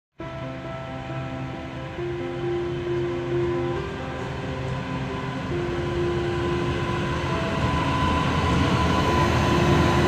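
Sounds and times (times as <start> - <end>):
passing train rumble: 0.2 - 10.0.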